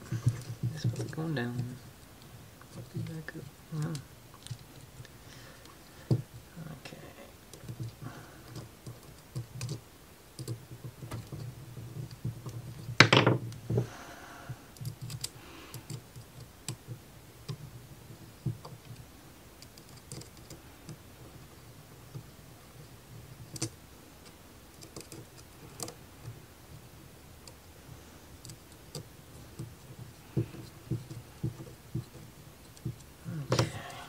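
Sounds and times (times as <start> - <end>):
plywood parts clicking and tapping: 0.0 - 6.4, 7.5 - 14.0, 14.7 - 27.6, 28.4 - 34.0.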